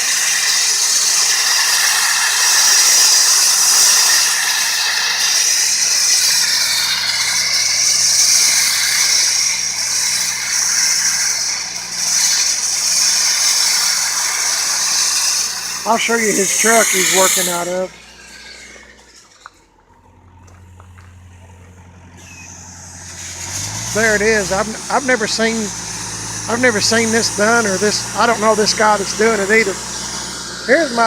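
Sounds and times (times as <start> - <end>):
blaster nozzle hissing: 0.0 - 19.2, 22.2 - 31.0
motor running: 0.0 - 31.0.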